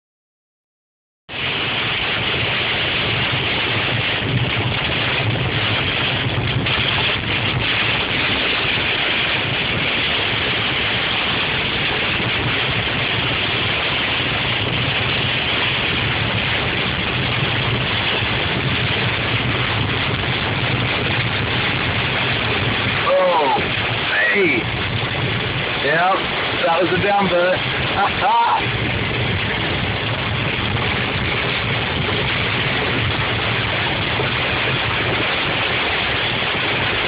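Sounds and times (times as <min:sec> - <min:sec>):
heavy rain on car roof: 0:01.3 - 0:37.0
car engine and tyres hum: 0:01.4 - 0:37.0.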